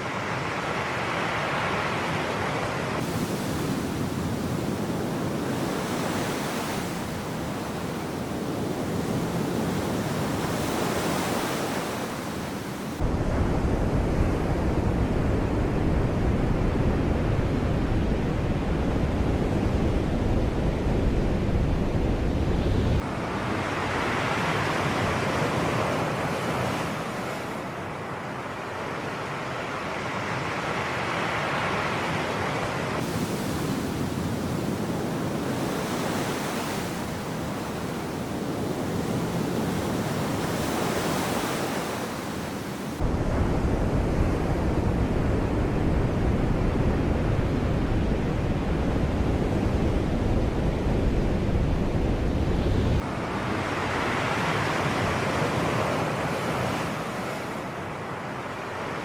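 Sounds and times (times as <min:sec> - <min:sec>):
sea waves breaking on shore: 0:00.0 - 0:13.2, 0:22.9 - 0:59.0
wind rumble on microphone: 0:02.1 - 0:27.5, 0:32.5 - 0:57.7.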